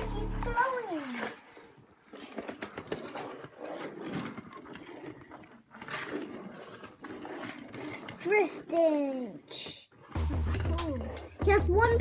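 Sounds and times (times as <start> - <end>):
toy car rattling on plastic track: 0.0 - 11.9.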